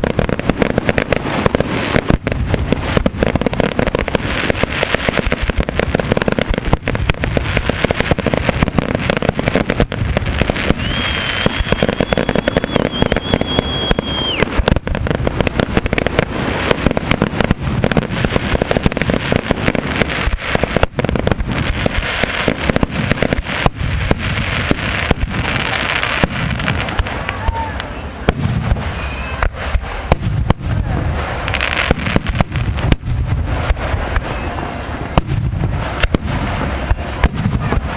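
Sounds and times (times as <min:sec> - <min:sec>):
fireworks bangs and crackling: 0:00.0 - 0:37.9
whistling firework: 0:00.0 - 0:37.9.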